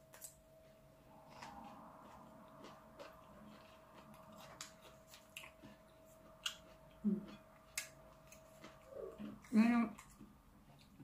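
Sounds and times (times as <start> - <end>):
faint steady hum: 0.0 - 11.0
person chewing: 1.2 - 11.0.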